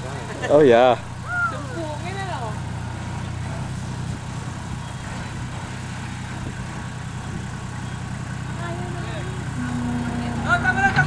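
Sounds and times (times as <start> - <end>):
bulldozer engine running: 0.0 - 11.0.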